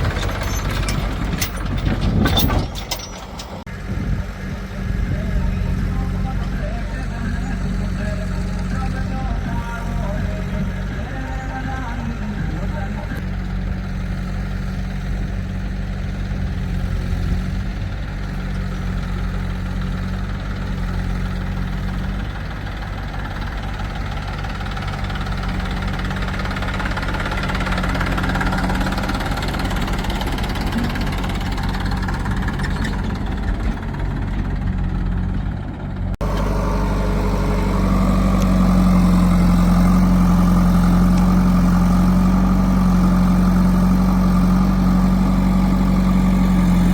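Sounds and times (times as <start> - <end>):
diesel engine idling: 0.0 - 46.9.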